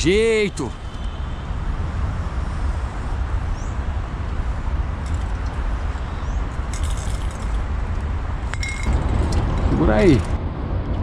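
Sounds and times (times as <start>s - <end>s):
low rumble of city noise: 0.0s - 11.0s.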